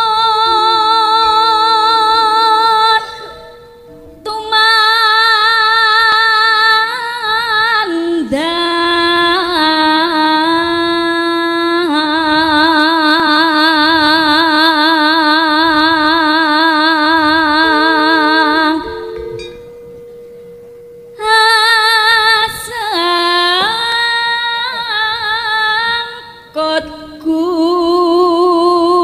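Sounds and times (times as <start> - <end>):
woman singing long held notes: 0.0 - 19.4, 21.2 - 29.0.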